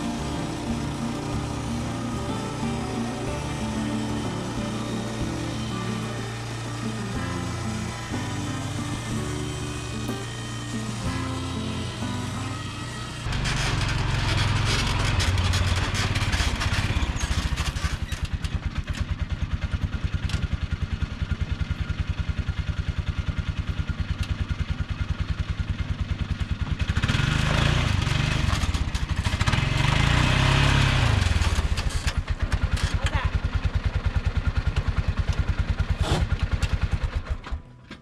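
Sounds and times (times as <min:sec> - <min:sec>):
engine running with fast pulse: 0:00.0 - 0:38.0.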